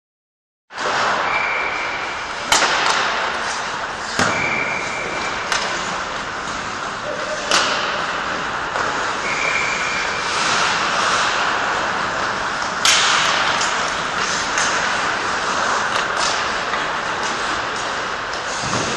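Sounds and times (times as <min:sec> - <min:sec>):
pucks hitting boards: 0:00.8 - 0:18.9
skates scraping on ice: 0:00.8 - 0:18.9
sticks striking pucks: 0:00.8 - 0:18.9.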